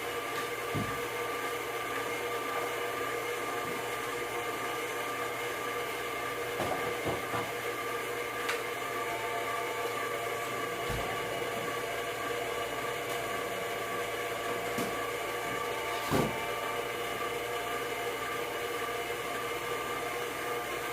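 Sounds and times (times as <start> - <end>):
stand mixer motor whining: 0.0 - 20.9.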